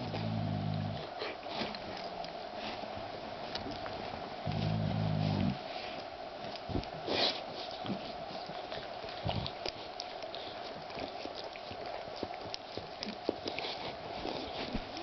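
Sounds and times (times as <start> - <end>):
animals snuffling and sniffing: 0.0 - 15.0
faint hum: 0.0 - 15.0.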